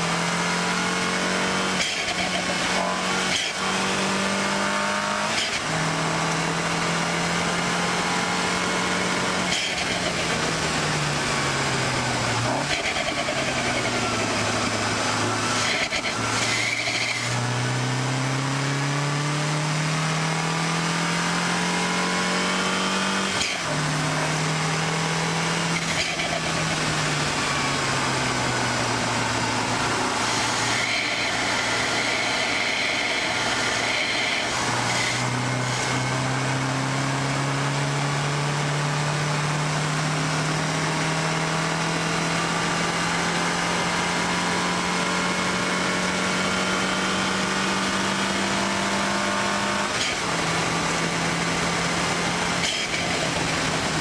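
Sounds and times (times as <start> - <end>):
wind and road noise: 0.0 - 38.4, 40.4 - 54.0
car engine revving: 0.0 - 54.0.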